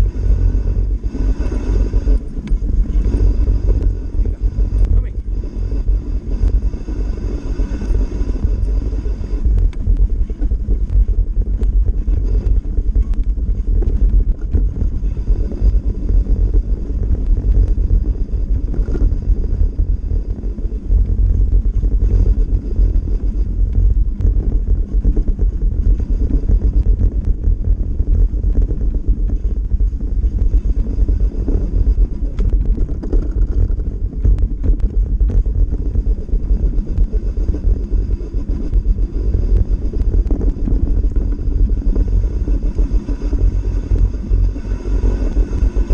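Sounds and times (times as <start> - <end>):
bike tyres rolling over snow: 0.0 - 45.9
wind buffeting microphone: 0.0 - 45.9.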